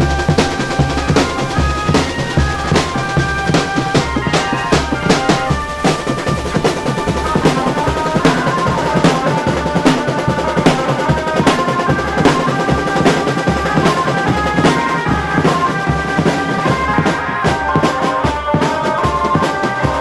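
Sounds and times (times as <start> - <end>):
bass-drum beat: 0.0 - 18.6
pitched melody line: 0.0 - 20.0
snare and tenor drums rattling: 0.0 - 20.0.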